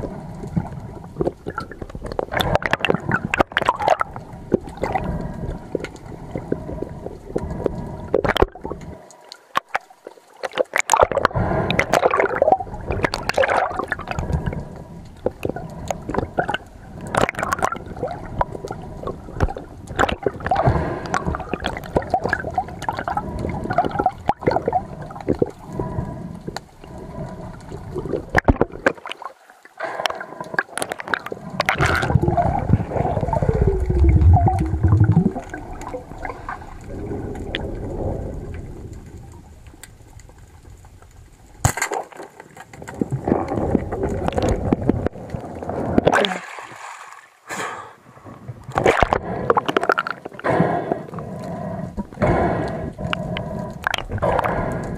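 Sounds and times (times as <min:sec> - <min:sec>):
water sloshing and gurgling: 0:00.0 - 0:54.9.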